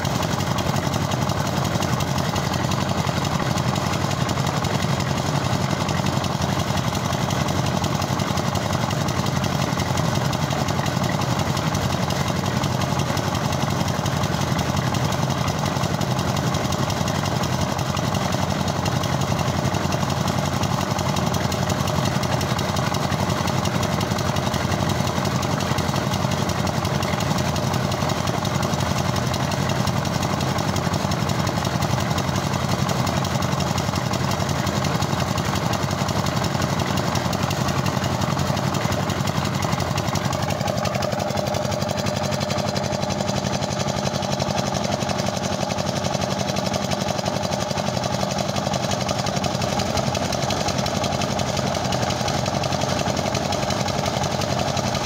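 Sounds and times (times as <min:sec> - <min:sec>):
concrete mixer engine running: 0:00.0 - 0:55.0.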